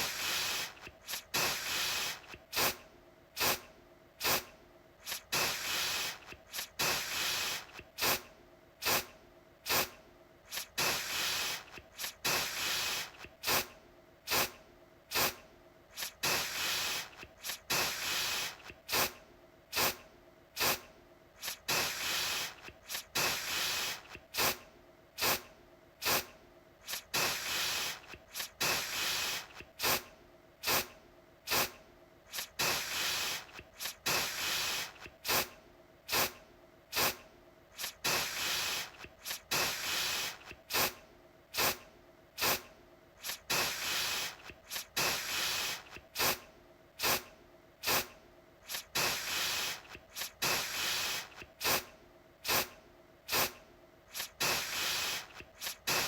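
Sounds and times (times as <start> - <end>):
aerosol can spraying: 0.0 - 2.8, 3.4 - 3.6, 4.2 - 13.7, 14.3 - 20.0, 20.6 - 24.6, 25.2 - 30.9, 31.5 - 37.2, 37.8 - 41.8, 42.4 - 46.4, 47.0 - 56.0.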